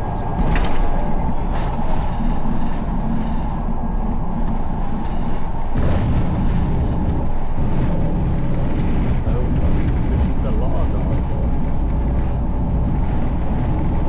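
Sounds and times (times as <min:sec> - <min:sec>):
jet engines rumbling: 0:00.0 - 0:14.0
wheels on runway: 0:00.0 - 0:14.0.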